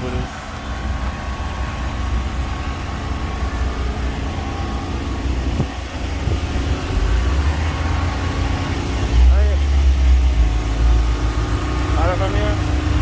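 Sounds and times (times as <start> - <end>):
low engine rumble: 0.0 - 13.0
street noise: 0.0 - 13.0.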